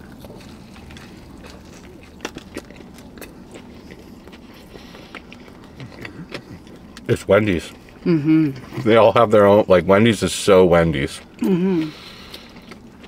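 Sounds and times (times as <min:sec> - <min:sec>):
people chewing crunchy food: 0:00.0 - 0:13.0
steady low background hum: 0:00.0 - 0:13.0.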